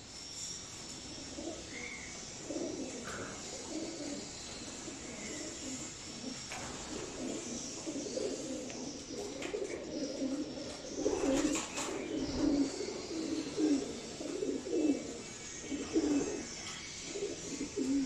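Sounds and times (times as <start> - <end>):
pigeons cooing: 0.7 - 18.0.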